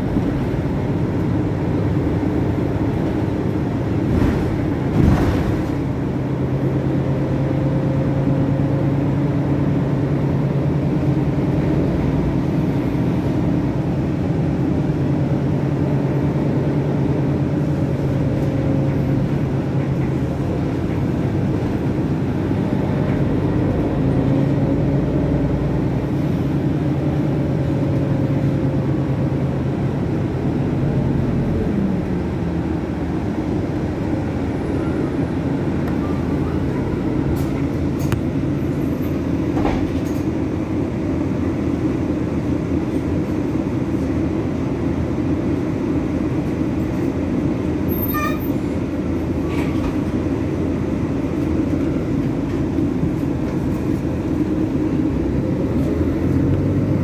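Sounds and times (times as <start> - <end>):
bus engine hum: 0.0 - 57.0
road rumble: 0.0 - 57.0.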